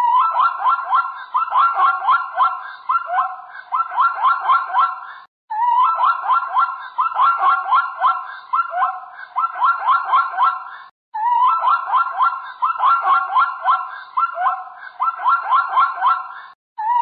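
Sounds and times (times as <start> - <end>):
animal squealing calls: 0.0 - 17.0.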